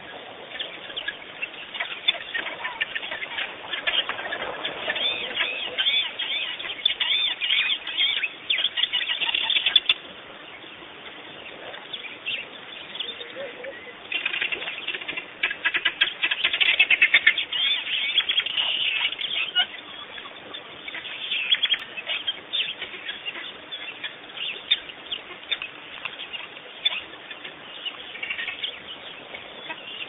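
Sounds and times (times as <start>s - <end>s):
birds chirping rapidly: 0.0s - 30.0s.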